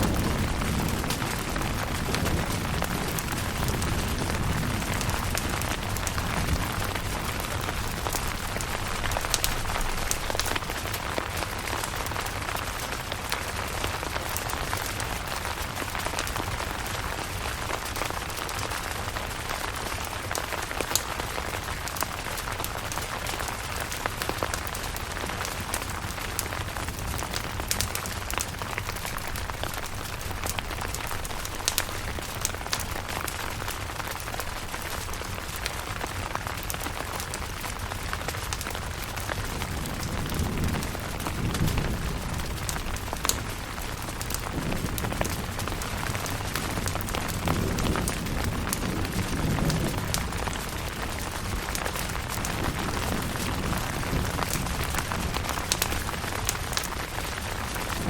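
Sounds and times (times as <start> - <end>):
rain on a tent: 0.0 - 58.0.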